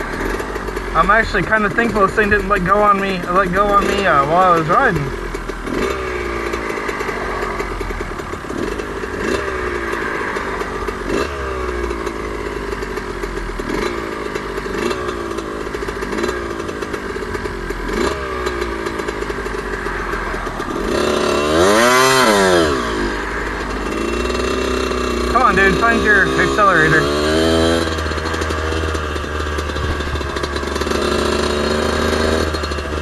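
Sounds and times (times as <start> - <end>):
two-stroke engine revving: 0.0 - 33.0.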